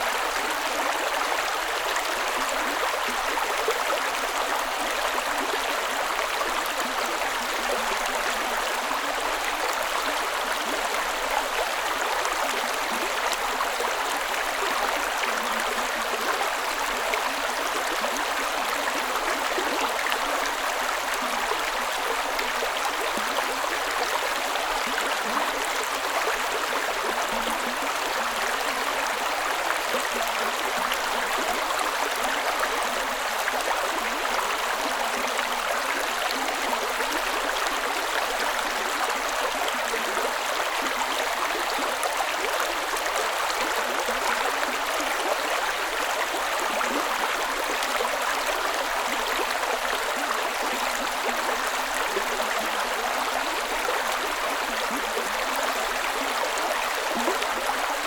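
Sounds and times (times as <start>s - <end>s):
creek water running over rocks: 0.0s - 58.0s.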